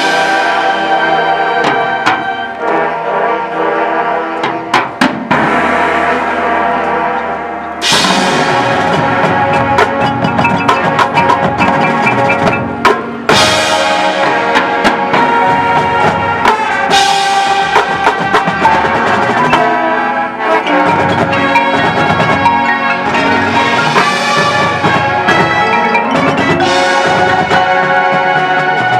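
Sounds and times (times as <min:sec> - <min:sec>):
marching band playing: 0:00.0 - 0:28.9
wind and brass chords: 0:00.0 - 0:28.9
sharp percussion hits: 0:04.4 - 0:07.2, 0:07.8 - 0:19.9, 0:20.6 - 0:28.9.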